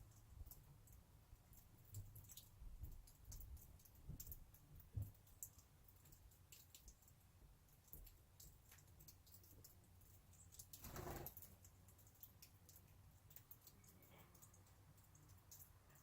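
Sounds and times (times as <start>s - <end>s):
faint high-pitched clicks: 0.0s - 16.0s.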